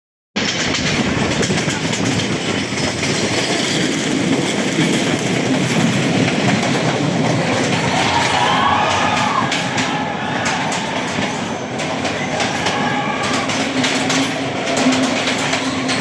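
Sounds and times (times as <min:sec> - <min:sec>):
train wheels rumbling on track: 0:00.4 - 0:16.0.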